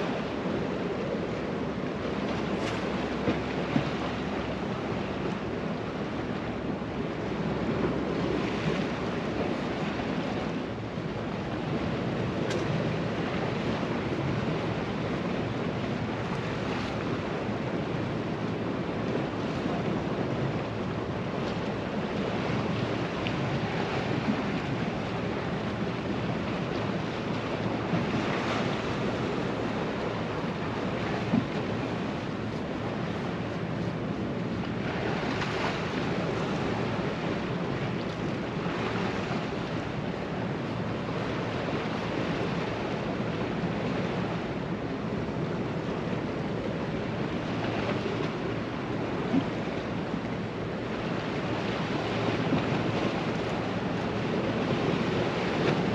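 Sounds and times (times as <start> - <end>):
surf washing against rocks: 7.4 - 55.9.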